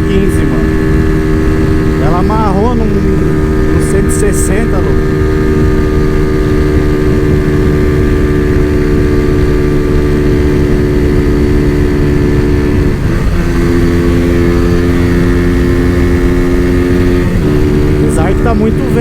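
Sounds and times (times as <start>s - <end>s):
motorcycle engine running flat out: 0.0s - 19.0s
wind rumble on microphone: 0.0s - 19.0s.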